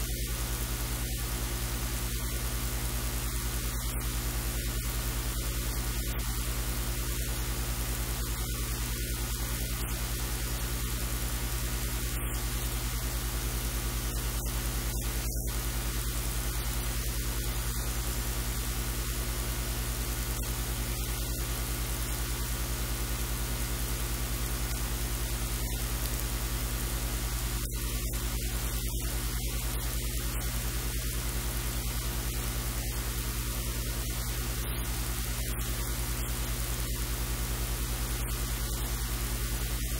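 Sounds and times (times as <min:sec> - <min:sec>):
hiss and static: 0:00.0 - 0:39.9
low electrical hum: 0:00.0 - 0:39.9.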